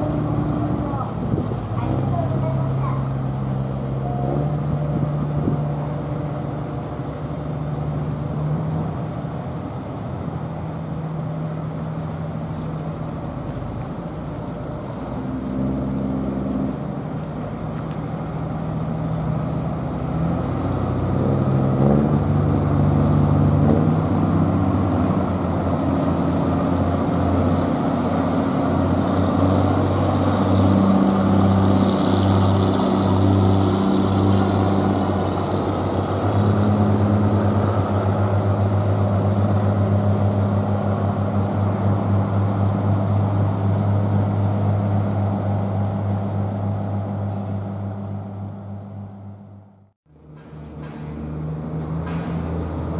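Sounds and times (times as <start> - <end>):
boat diesel engine running: 0.0 - 52.9.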